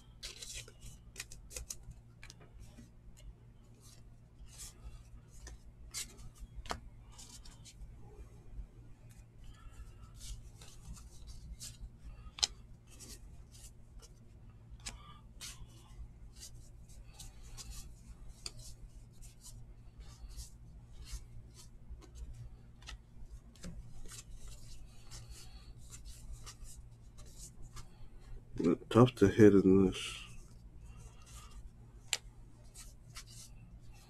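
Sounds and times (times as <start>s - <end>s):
trading cards flipped by hand: 0.0s - 7.7s, 9.5s - 28.0s, 30.9s - 34.0s
low steady hum: 0.0s - 34.0s.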